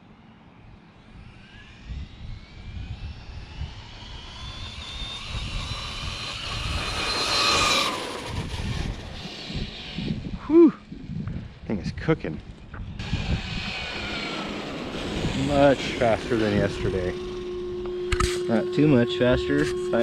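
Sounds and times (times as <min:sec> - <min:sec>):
electric motor whining: 0:01.0 - 0:11.6, 0:12.4 - 0:20.0.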